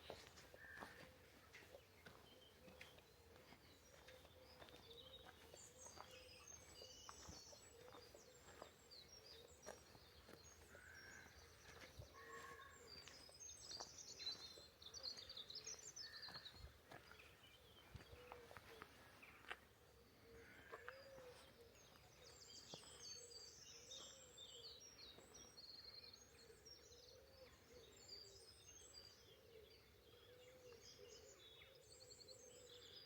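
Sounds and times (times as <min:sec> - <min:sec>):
faint birdsong: 0:00.0 - 0:33.0.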